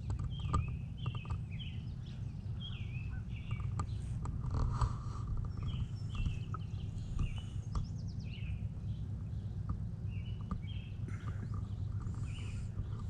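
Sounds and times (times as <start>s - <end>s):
songbirds chirping: 0.0s - 13.0s
steady low rumble: 0.0s - 13.0s.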